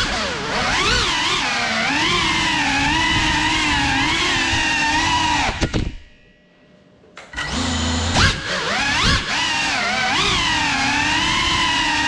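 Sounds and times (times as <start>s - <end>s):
drone propellers whining: 0.0s - 6.1s, 7.2s - 12.0s.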